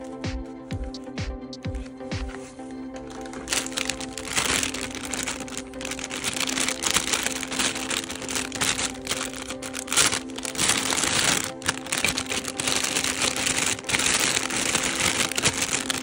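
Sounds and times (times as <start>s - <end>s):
background music with held tones: 0.0s - 16.0s
plastic packaging crinkling: 3.0s - 16.0s.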